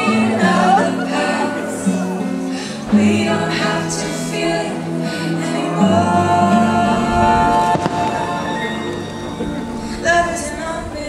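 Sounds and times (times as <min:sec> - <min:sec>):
music with singing: 0:00.0 - 0:11.0.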